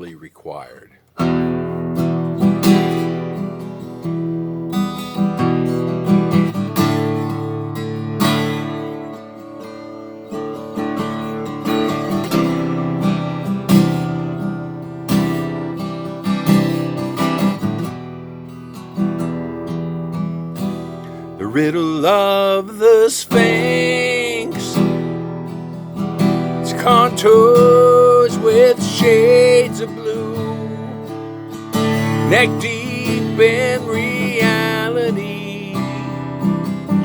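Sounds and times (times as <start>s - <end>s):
acoustic guitar playing: 1.1s - 37.0s.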